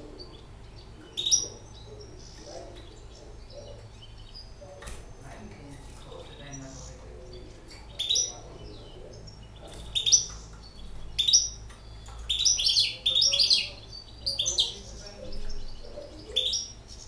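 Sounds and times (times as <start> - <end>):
finch chirping: 0.0 - 17.0.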